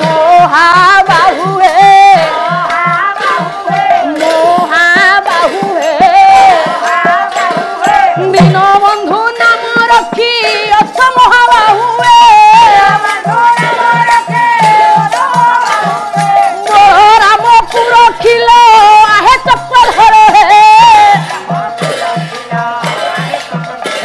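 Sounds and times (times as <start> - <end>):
devotional singing: 0.0 - 24.0
drum beating: 0.0 - 24.0
rattling percussion: 0.0 - 24.0.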